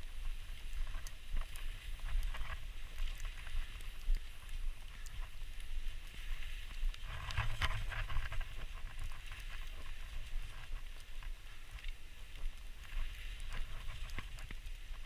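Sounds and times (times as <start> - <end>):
skis hissing through powder snow: 0.0 - 15.0
wind rumble on microphone: 0.0 - 15.0
small clicks: 0.2 - 15.0.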